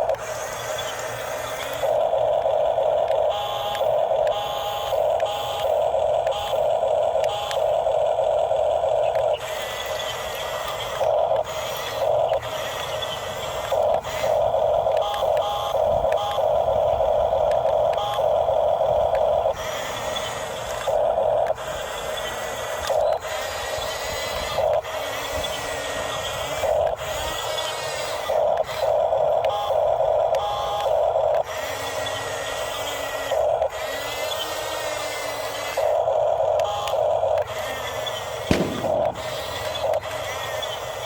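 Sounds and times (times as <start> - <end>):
electric model motors whining: 0.0 - 41.0.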